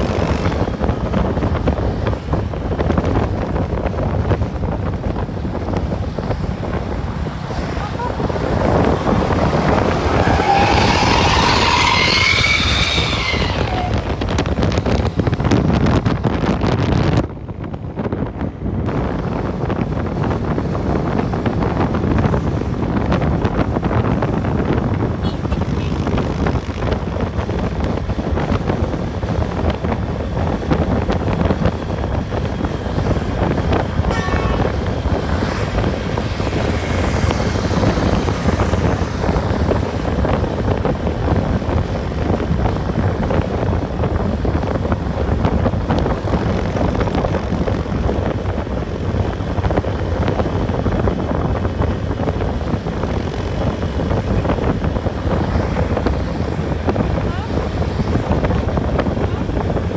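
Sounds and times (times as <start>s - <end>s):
vehicle road and engine rumble: 0.0s - 59.9s
wind buffeting microphone: 0.0s - 59.9s.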